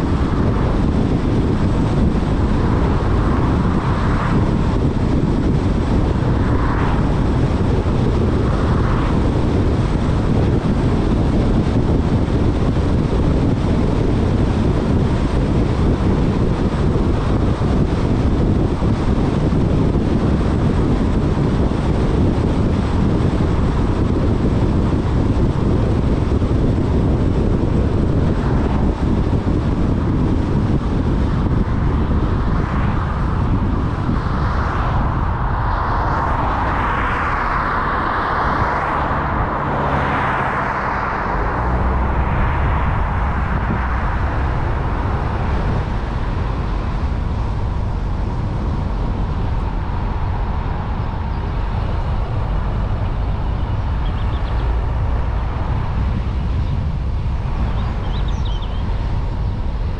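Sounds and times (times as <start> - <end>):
car driving road noise: 0.0 - 59.9
passing wash of noise: 0.0 - 59.9.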